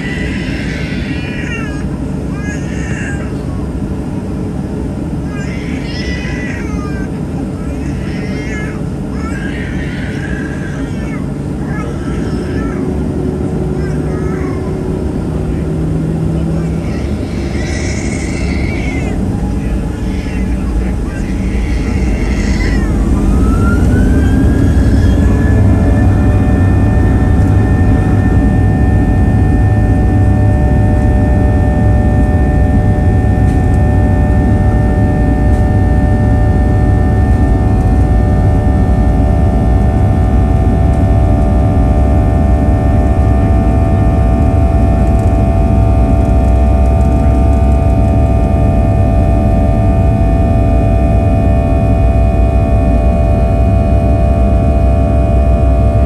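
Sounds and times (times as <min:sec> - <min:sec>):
jet engine whine: 0:00.0 - 0:56.0
loud engine rumble: 0:00.0 - 0:56.0.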